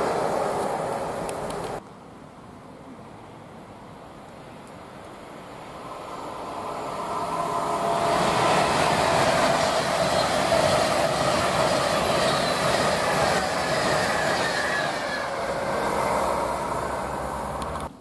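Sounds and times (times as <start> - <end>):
passenger train passing at speed: 0.0 - 1.8, 3.0 - 18.0.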